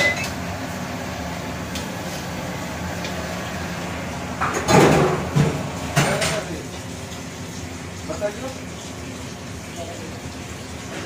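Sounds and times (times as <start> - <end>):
low machine hum with hiss: 0.0 - 11.0.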